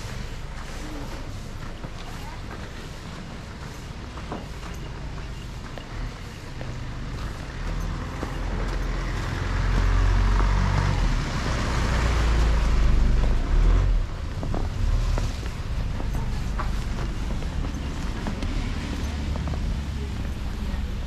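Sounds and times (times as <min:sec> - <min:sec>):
low vehicle rumble: 0:00.0 - 0:21.0
vehicle tyres on snowy road: 0:00.0 - 0:21.0.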